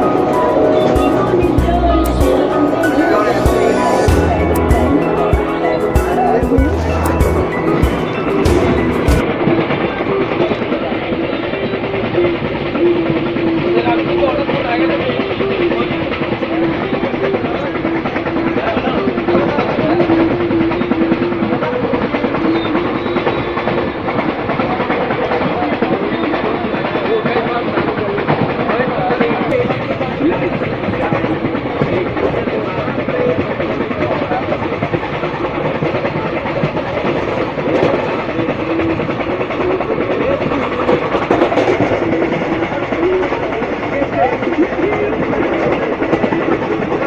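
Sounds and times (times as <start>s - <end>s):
train wheels clattering on rails: 7.4s - 47.0s.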